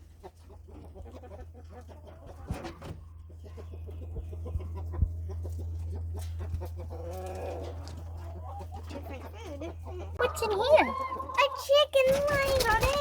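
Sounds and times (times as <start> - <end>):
chickens clucking: 0.0 - 13.0
low steady hum: 0.0 - 13.0.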